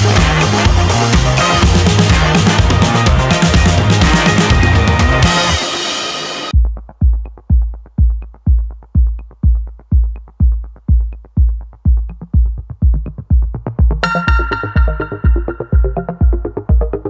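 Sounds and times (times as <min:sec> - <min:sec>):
muffled kick drum beat: 0:00.0 - 0:05.8, 0:06.5 - 0:17.0
electronic dance music: 0:00.0 - 0:17.0.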